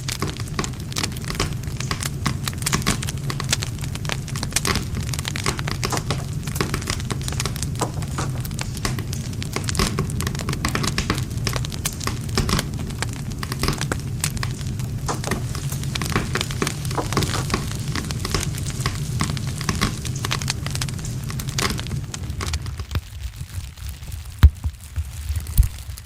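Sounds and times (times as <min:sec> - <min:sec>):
campfire crackling and popping: 0:00.0 - 0:26.0
low rumble of flames: 0:00.0 - 0:26.0.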